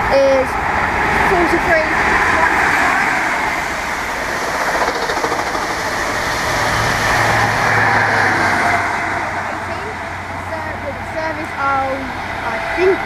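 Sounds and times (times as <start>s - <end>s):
train passing rush: 0.0s - 13.0s.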